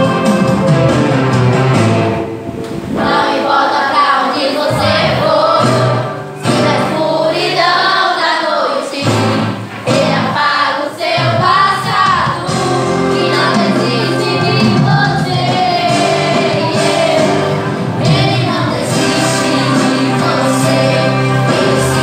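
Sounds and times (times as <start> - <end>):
instrumental accompaniment: 0.0 - 8.3, 8.9 - 22.0
child singing into microphone: 2.7 - 22.0.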